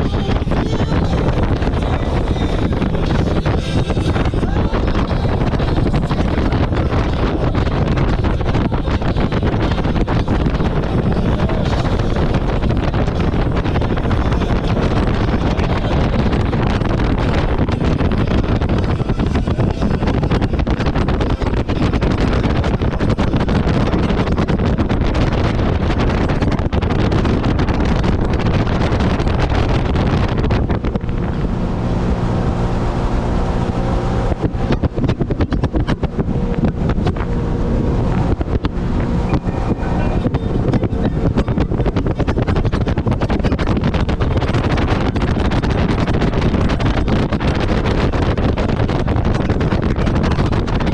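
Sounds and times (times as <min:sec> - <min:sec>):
jet ski engine running: 0:00.0 - 0:50.9
wind buffeting microphone: 0:00.0 - 0:50.9.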